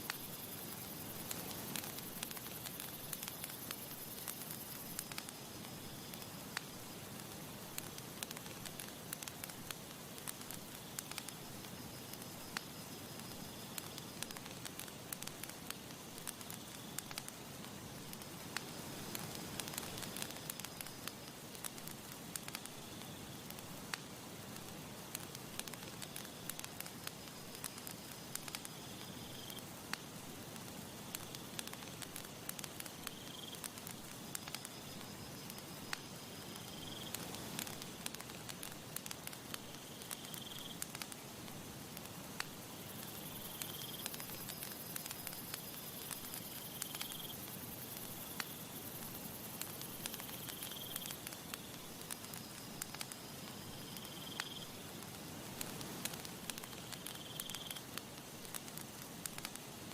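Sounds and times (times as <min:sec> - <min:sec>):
campfire crackling and popping: 0:00.0 - 0:59.9
soft breeze hiss: 0:00.0 - 0:59.9.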